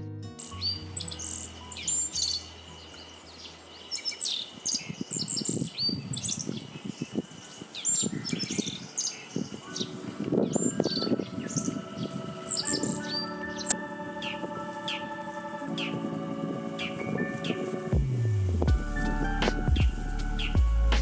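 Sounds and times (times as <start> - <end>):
birds chirping and calling: 0.4 - 18.0.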